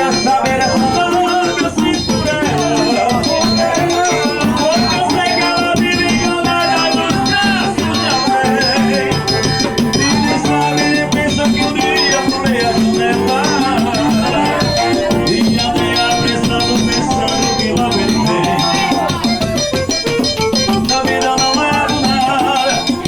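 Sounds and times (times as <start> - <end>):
accordion dance tune: 0.0 - 23.0
drums and shaker percussion: 0.0 - 23.0.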